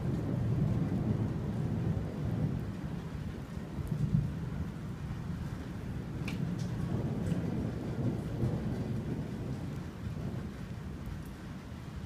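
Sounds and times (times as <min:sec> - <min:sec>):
distant thunder rumble: 0:00.0 - 0:12.0
faint rain hiss: 0:00.0 - 0:12.0.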